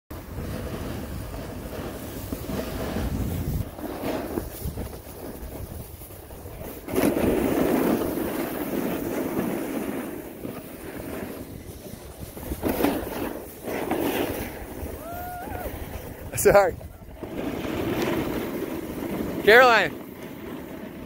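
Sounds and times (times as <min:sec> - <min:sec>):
skis scraping over packed snow: 0:00.1 - 0:21.0
wind buffeting microphone: 0:00.1 - 0:21.0.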